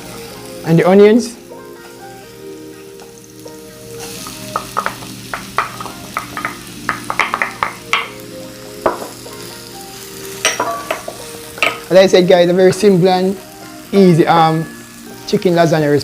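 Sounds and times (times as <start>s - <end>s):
faint background music: 0.0s - 16.0s
onions sizzling in hot oil: 0.0s - 16.0s.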